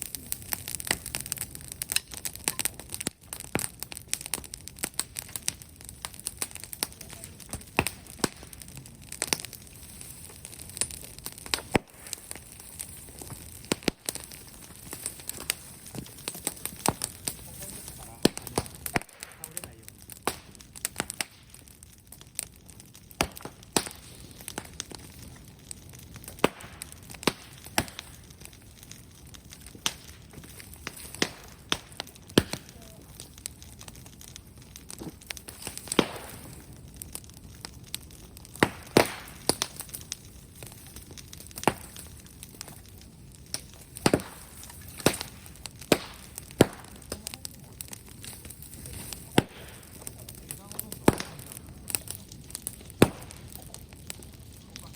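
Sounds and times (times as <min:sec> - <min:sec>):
bonfire crackling and popping: 0:00.0 - 0:54.9.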